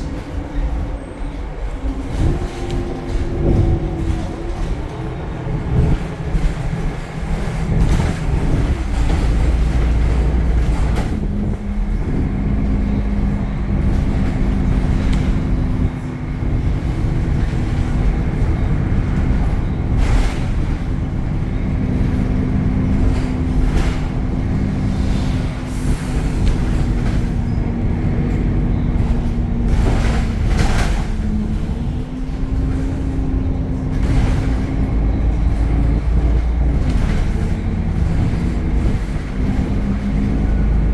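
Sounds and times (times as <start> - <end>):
bus engine rumble: 0.0 - 40.9.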